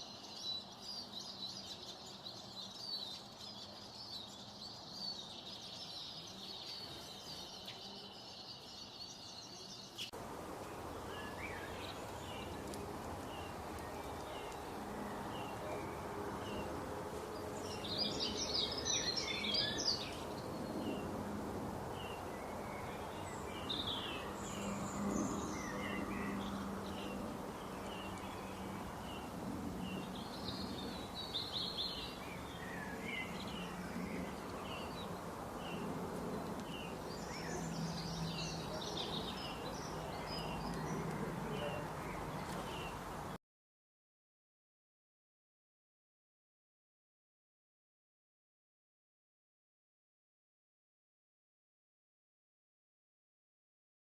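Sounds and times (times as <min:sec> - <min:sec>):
birds chirping: 0:00.0 - 0:43.4
birds twittering: 0:00.0 - 0:43.4
steady background noise: 0:00.0 - 0:43.4.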